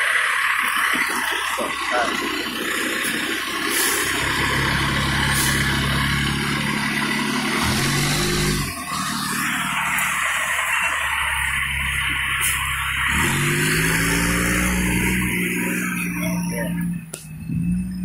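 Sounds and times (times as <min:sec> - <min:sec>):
diesel fire engine running: 0:00.0 - 0:18.0.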